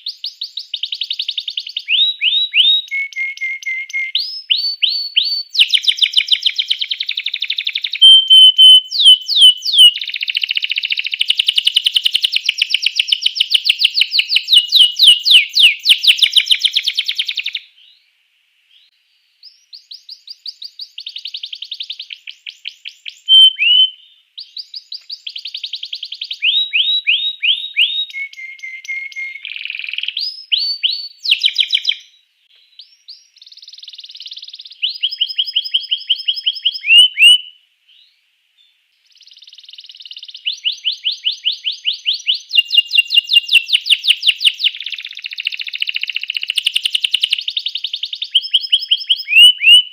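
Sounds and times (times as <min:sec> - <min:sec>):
canary singing trills: 0:00.0 - 0:18.1, 0:18.7 - 0:38.2, 0:39.0 - 0:49.9.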